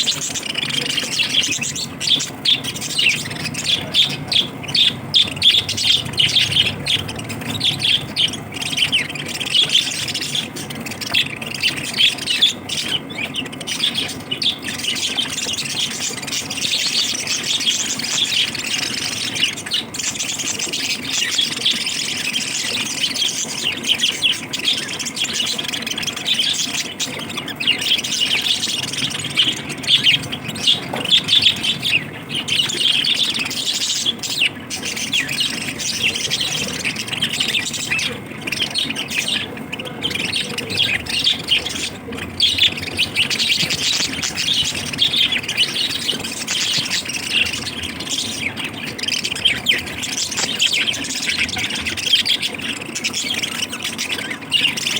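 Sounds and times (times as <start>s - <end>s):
lovebirds chattering and squawking: 0.0s - 54.9s.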